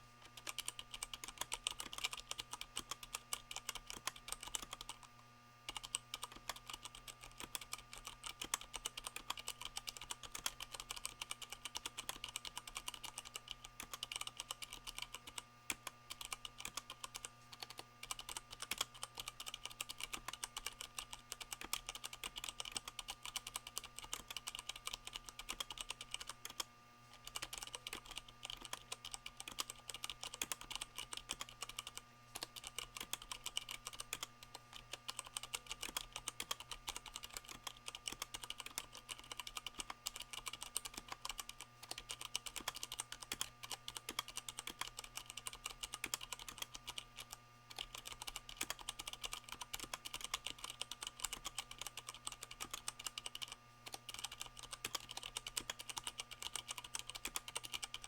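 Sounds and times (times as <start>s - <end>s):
fast mechanical keyboard typing: 0.2s - 5.1s, 5.7s - 58.0s.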